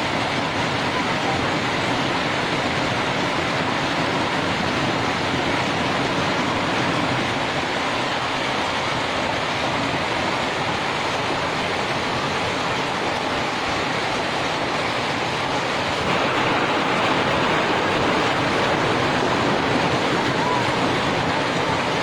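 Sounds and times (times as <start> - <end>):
hail falling heavily: 0.0 - 22.0.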